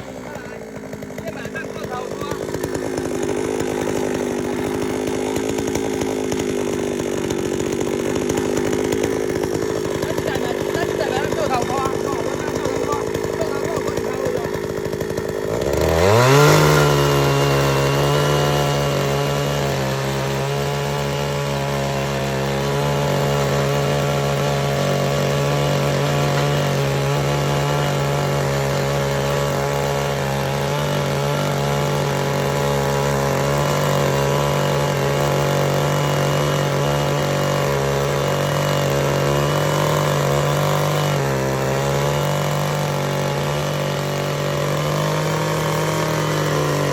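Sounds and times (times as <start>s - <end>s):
small gasoline engine revving: 0.0s - 46.9s.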